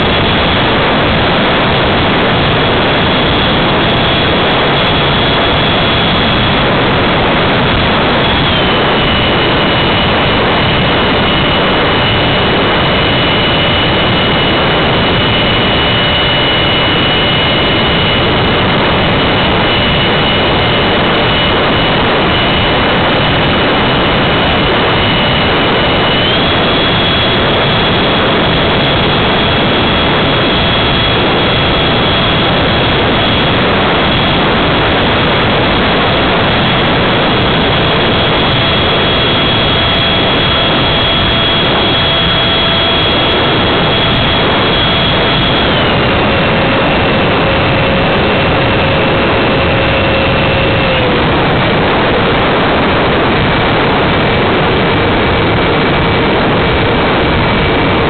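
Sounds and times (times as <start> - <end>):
electric ducted fan whining: 0.0 - 58.0.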